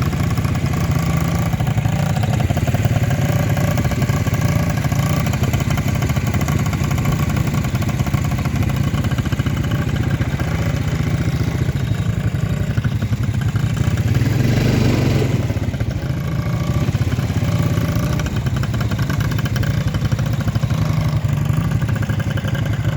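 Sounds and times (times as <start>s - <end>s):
atv engine running: 0.0s - 22.9s.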